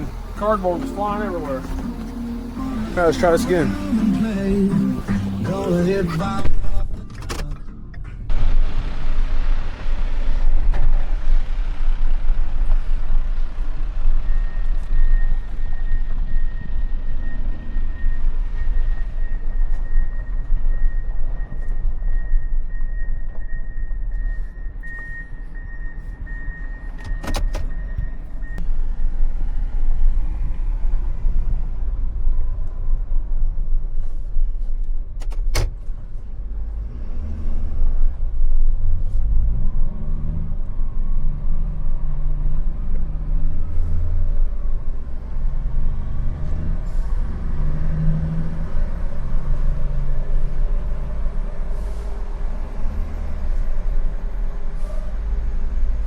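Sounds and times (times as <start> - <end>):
truck engine driving: 0.0 - 56.0.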